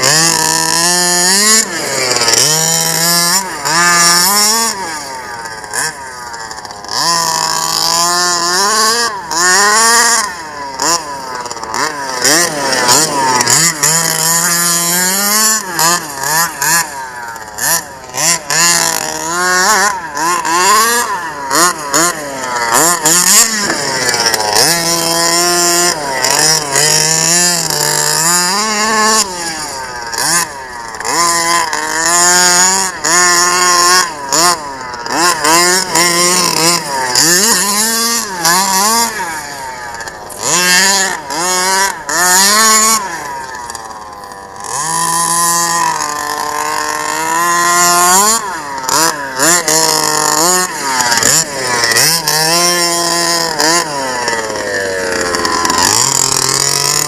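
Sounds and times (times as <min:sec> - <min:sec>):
small two-stroke engine revving: 0:00.0 - 0:57.0.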